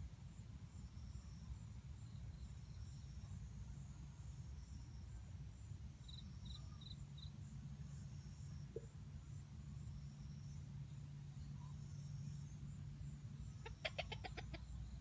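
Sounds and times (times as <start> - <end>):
low steady rumble: 0.0 - 15.0
insects trilling: 0.3 - 15.0.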